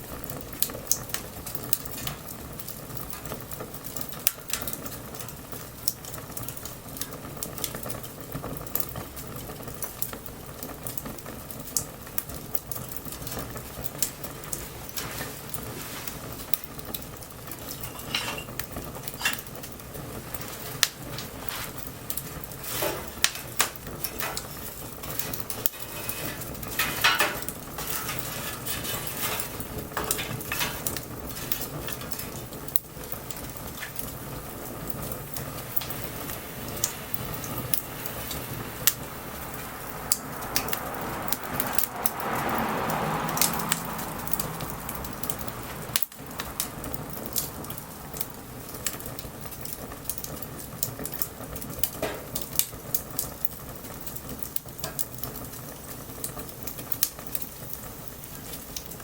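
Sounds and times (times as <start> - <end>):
light rain hissing: 0.0 - 59.0
wood fire crackling: 0.0 - 59.0.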